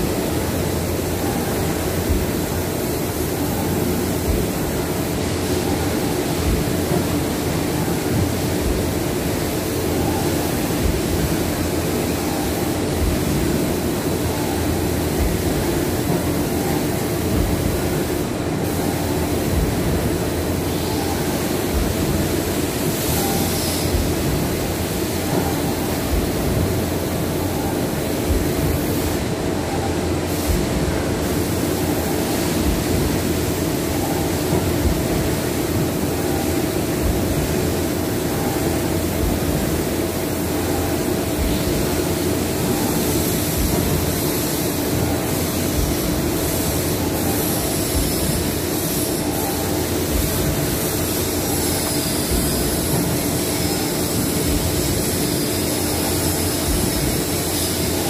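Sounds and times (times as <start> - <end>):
industrial machinery drone: 0.0 - 58.0.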